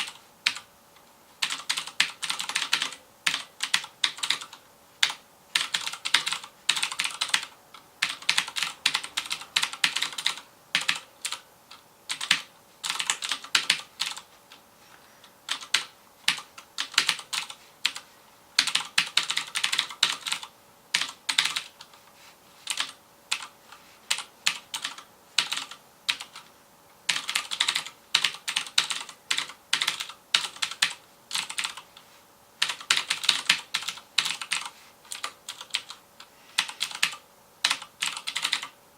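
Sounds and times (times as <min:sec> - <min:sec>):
clicky mechanical keyboard typing: 0:00.0 - 0:00.7, 0:01.4 - 0:14.6, 0:15.5 - 0:18.0, 0:18.6 - 0:22.0, 0:22.7 - 0:23.5, 0:24.1 - 0:26.5, 0:27.1 - 0:32.0, 0:32.6 - 0:38.8.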